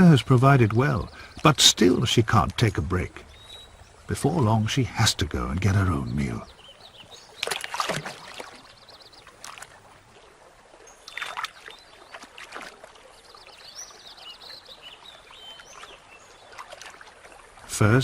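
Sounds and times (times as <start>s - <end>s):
water splashing: 0.0s - 18.0s
water trickling: 0.0s - 18.0s.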